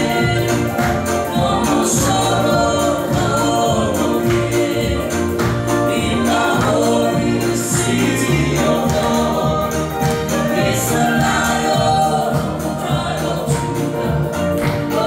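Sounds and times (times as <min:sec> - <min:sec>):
choir singing in harmony: 0:00.0 - 0:15.0
gospel music with bass notes: 0:00.0 - 0:15.0.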